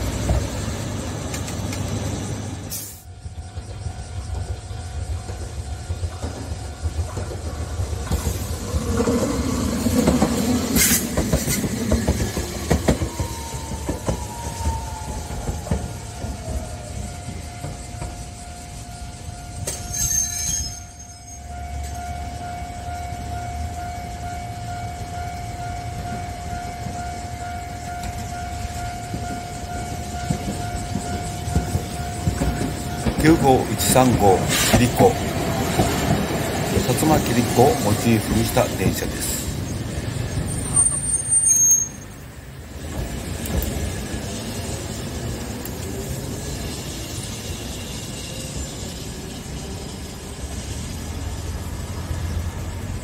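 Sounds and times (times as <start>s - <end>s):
level crossing warning signal: 0.0s - 11.3s, 12.0s - 46.3s
tram running along track: 0.0s - 53.0s.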